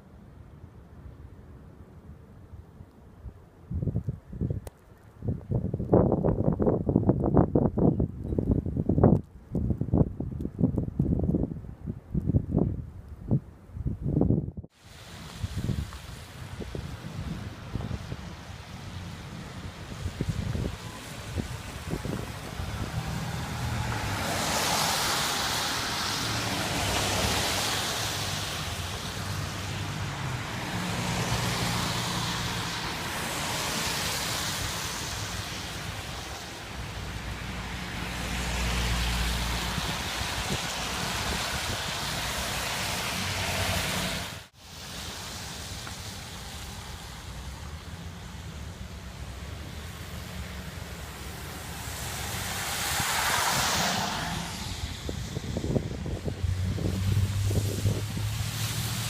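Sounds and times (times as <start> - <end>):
wind rushing across microphone: 3.1 - 59.0.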